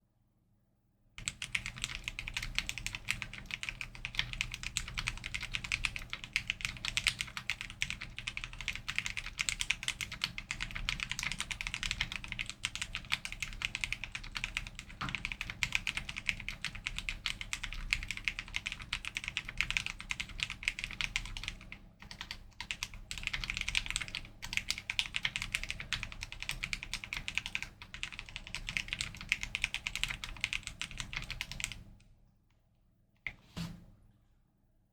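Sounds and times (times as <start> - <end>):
fast keyboard typing: 1.2 - 31.8.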